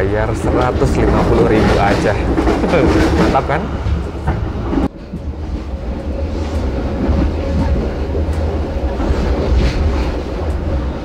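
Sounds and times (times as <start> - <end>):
train carriage rumble: 0.0 - 11.0.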